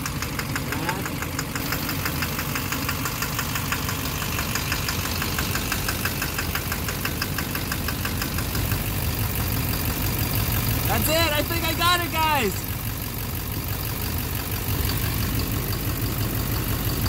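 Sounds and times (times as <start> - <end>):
diesel engine idling with knock: 0.0 - 17.0.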